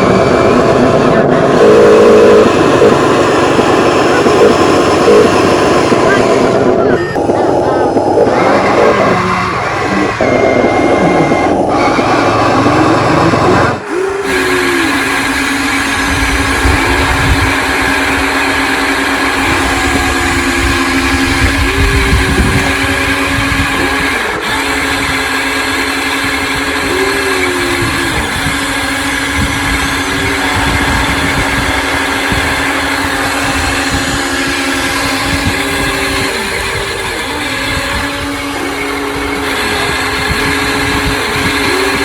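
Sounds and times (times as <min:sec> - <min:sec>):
excavator pump motor whine: 0:00.0 - 0:42.0
higher motor whine: 0:00.0 - 0:42.0.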